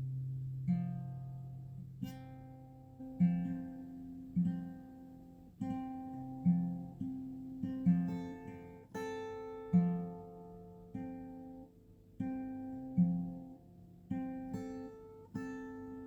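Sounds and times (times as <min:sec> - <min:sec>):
slow acoustic guitar piece: 0:00.0 - 0:16.0.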